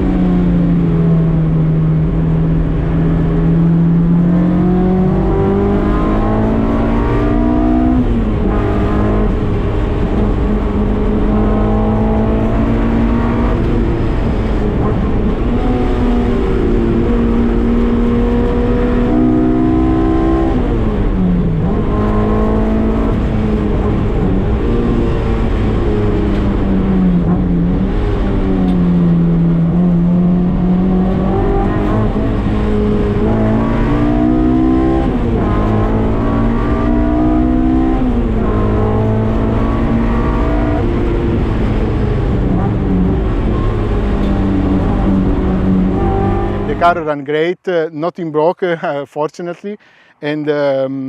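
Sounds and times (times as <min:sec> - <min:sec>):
race car engine changing gear: 0:00.0 - 0:47.1.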